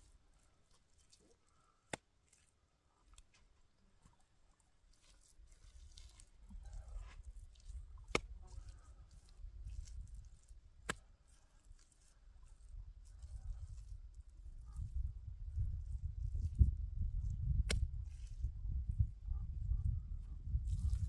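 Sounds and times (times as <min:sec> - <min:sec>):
wet mud patting and crunching: 0:00.0 - 0:19.3, 0:20.5 - 0:21.0.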